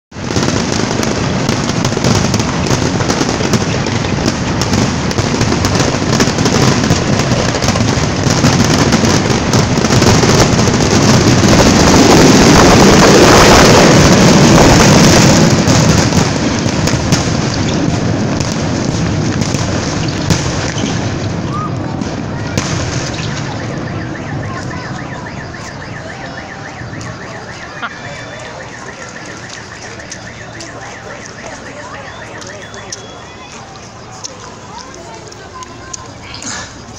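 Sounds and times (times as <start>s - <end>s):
fireworks bursting and crackling: 0.1s - 36.9s.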